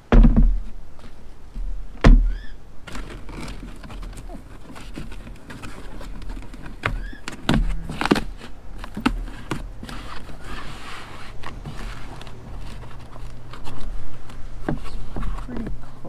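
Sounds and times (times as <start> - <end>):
rustling and scraping: 0.0 - 16.0.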